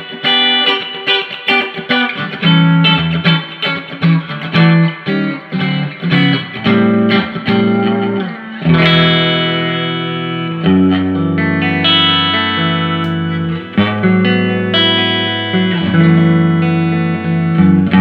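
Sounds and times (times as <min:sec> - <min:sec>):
electric guitar playing: 0:00.0 - 0:18.0.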